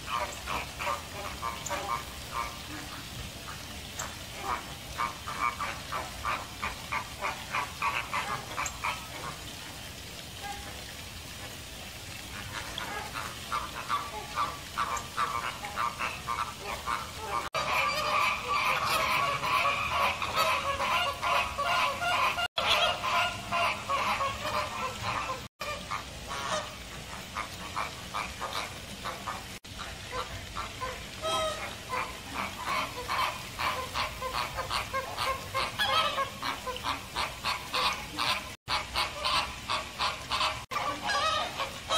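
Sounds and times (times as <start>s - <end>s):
flamingos honking: 0.0s - 11.4s, 12.2s - 41.9s.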